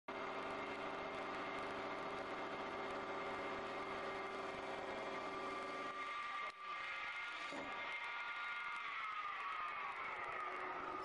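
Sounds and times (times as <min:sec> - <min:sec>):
wood lathe cutting with whine: 0:00.1 - 0:11.0.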